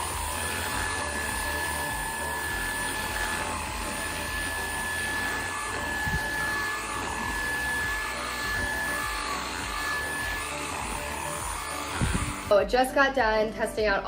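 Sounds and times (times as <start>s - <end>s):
vacuum cleaner motor whine: 0.0s - 12.6s.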